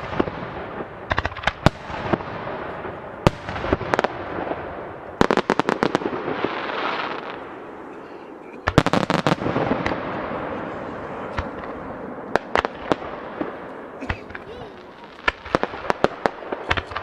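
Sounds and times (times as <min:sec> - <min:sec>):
fireworks cracking: 0:00.0 - 0:17.0.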